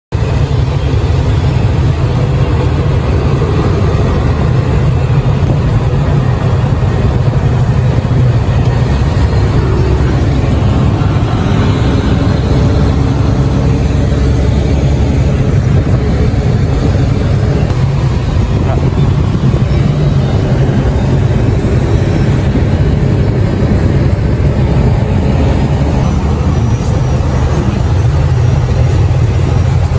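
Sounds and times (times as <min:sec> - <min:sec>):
road noise: 0:00.1 - 0:29.9
truck engine droning: 0:00.1 - 0:29.9.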